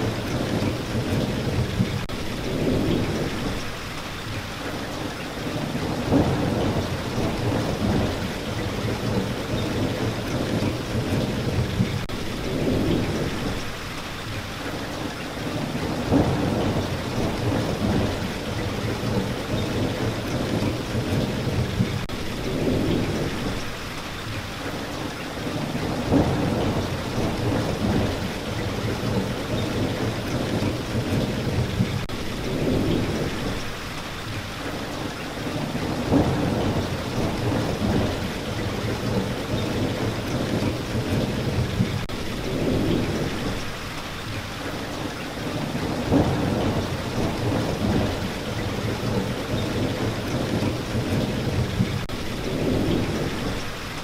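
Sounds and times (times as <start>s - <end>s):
thunder rumbles: 0.0s - 3.8s, 5.4s - 13.8s, 15.4s - 23.8s, 25.4s - 33.8s, 35.4s - 43.8s, 45.4s - 53.8s
steady rain falling: 0.0s - 54.0s.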